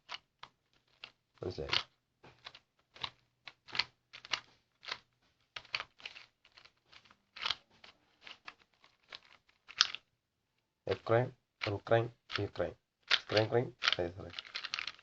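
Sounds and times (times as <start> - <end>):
plastic puzzle cube clicking: 0.0 - 10.1, 11.6 - 15.0.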